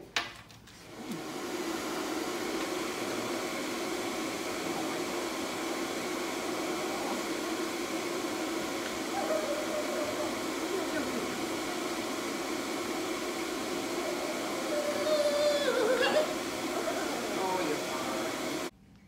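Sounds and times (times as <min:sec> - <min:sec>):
grooming dryer blowing: 0:00.8 - 0:18.7.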